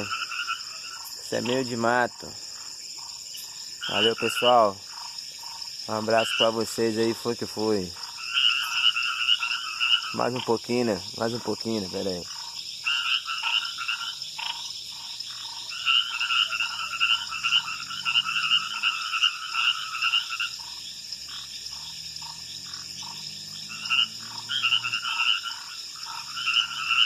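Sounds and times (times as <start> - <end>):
frogs calling: 0.0 - 27.0.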